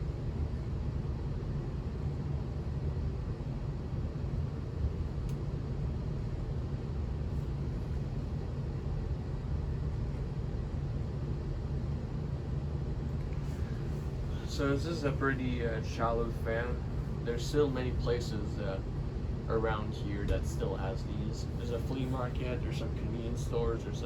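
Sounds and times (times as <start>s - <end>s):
ceiling fans humming: 0.0s - 24.0s.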